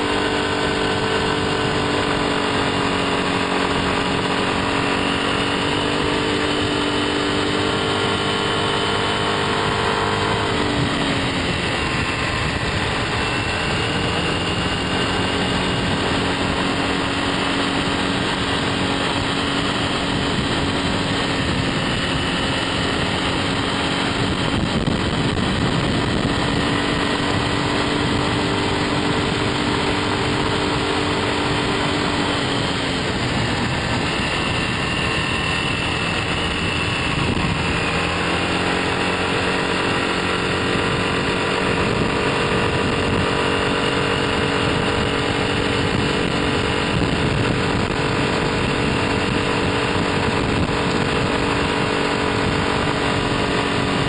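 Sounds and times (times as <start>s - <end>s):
motor scooter engine running: 0.0s - 54.0s
wind and road noise: 0.0s - 54.0s.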